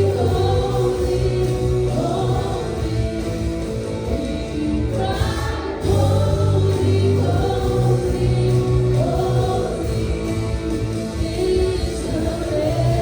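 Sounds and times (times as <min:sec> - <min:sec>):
band accompaniment: 0:00.0 - 0:13.0
bass guitar: 0:00.0 - 0:13.0
worship team singing: 0:00.0 - 0:13.0.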